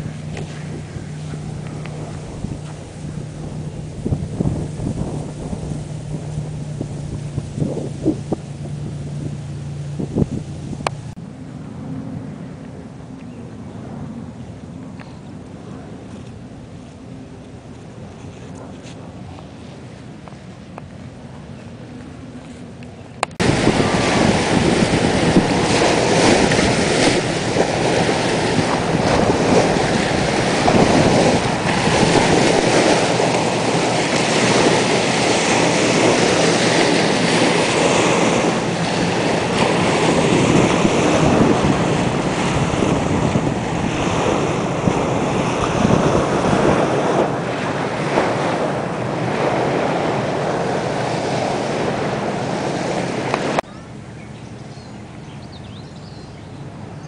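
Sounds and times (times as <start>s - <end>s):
small waves breaking on shore: 0.0s - 12.6s, 23.3s - 57.0s
wind on microphone: 0.0s - 53.8s.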